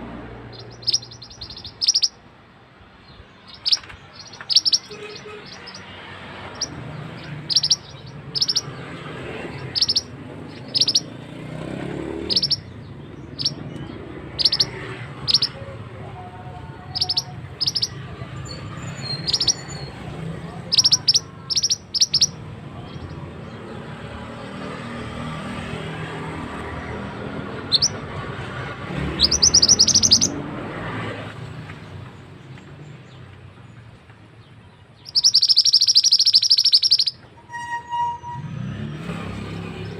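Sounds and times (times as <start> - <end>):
bird chirping: 0.5 - 2.3, 3.0 - 25.4, 27.2 - 28.2, 28.9 - 30.4, 31.8 - 38.2.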